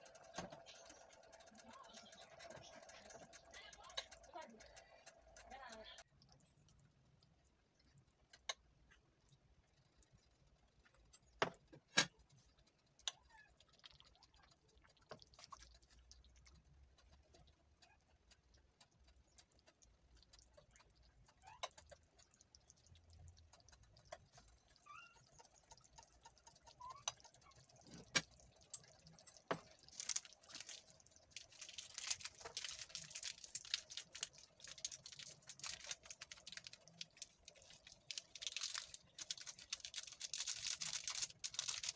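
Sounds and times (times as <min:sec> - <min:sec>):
stew bubbling and popping: 0:00.0 - 0:41.9.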